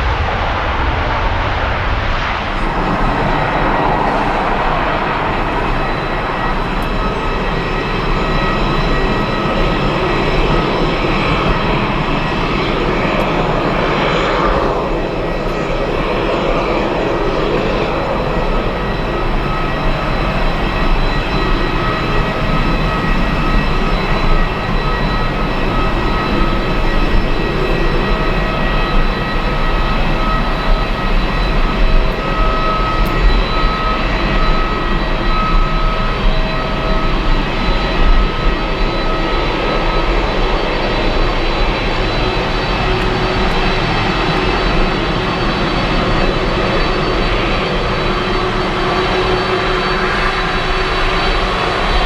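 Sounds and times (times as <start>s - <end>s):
jet engines running: 0.0s - 52.0s.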